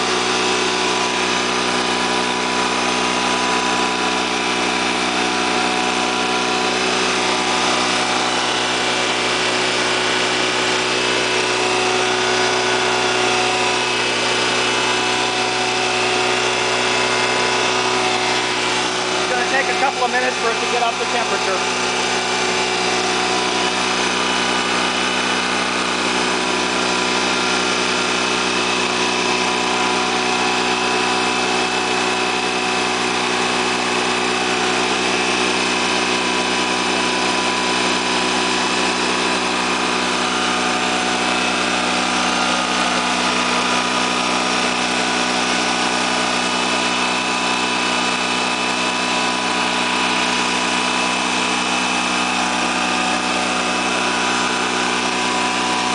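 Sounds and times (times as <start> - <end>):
generator engine running: 0.0 - 55.9.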